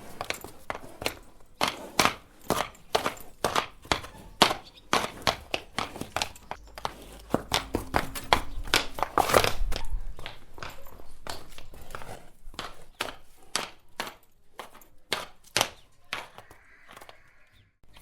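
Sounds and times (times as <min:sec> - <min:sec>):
horse hooves clopping: 0:00.0 - 0:18.0.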